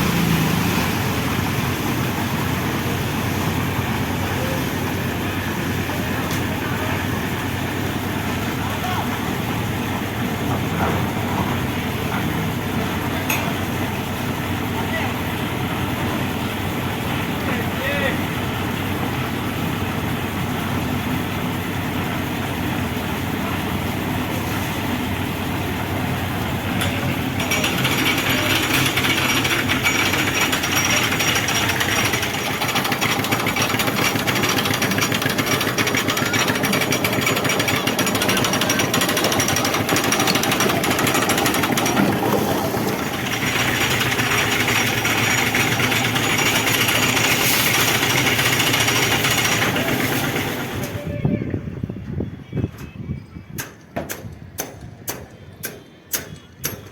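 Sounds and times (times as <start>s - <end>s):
concrete mixer rattling: 0.0s - 51.1s.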